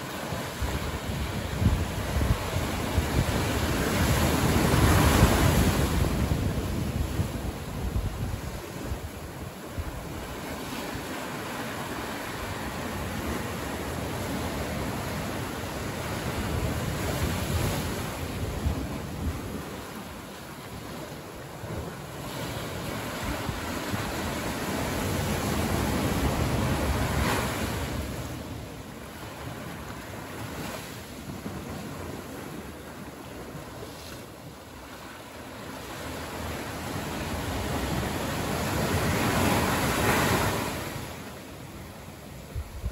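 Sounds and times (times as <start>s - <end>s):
small waves washing up sand: 0.0s - 42.9s.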